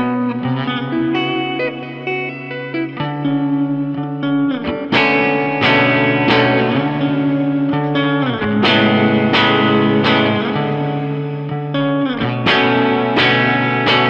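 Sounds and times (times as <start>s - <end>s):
clean electric guitar with reverb: 0.0s - 14.0s.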